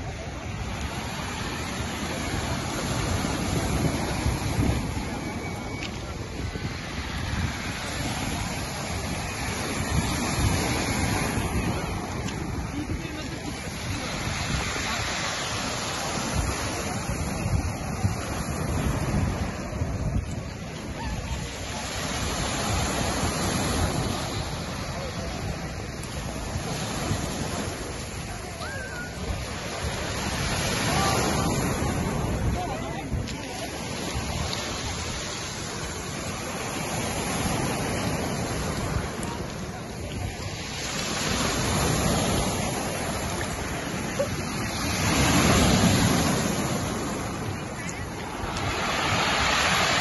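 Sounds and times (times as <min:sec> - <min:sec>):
waves breaking on pebble shore: 0:00.0 - 0:50.0.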